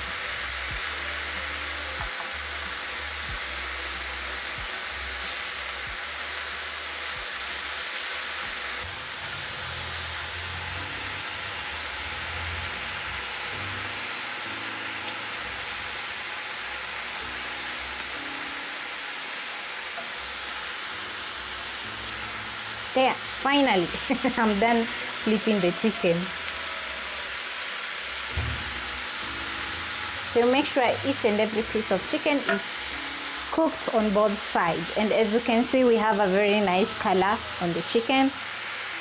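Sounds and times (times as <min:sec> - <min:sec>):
chicken sizzling in grill pan: 0:00.0 - 0:39.0.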